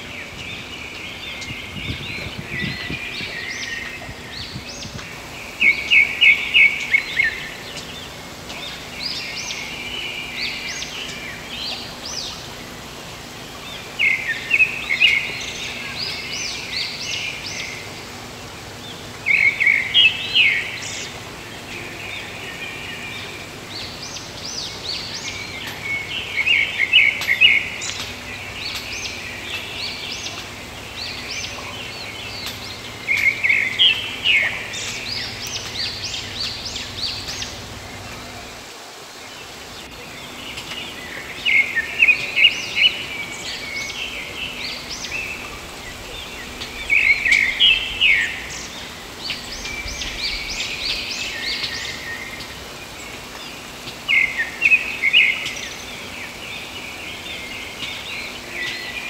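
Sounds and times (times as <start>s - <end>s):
river water rushing: 0.0s - 59.0s
songbird singing: 0.0s - 59.0s.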